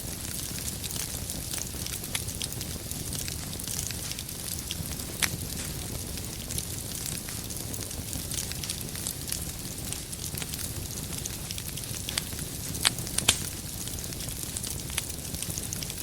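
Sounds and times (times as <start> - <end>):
fire popping: 0.0 - 16.0
wood fire crackling: 0.0 - 16.0.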